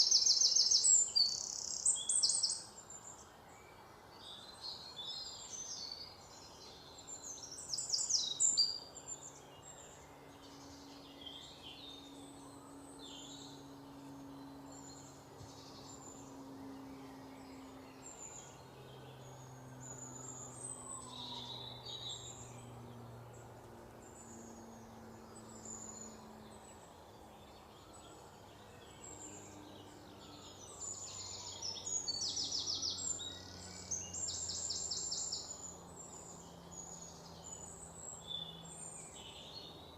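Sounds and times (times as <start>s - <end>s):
birds chirping and singing: 0.0s - 39.9s
faint steady low hum: 0.0s - 39.9s.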